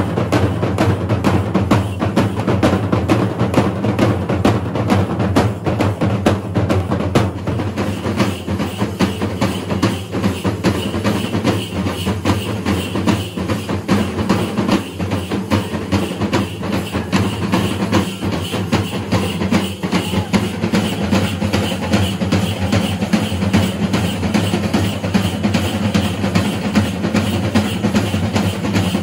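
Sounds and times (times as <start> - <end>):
fast percussion ensemble drumming: 0.0 - 29.0.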